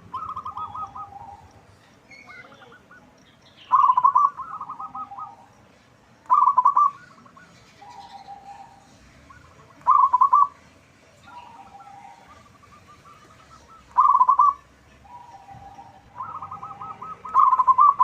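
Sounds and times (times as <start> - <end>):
dove cooing: 0.0 - 5.5, 6.3 - 10.6, 11.3 - 18.0.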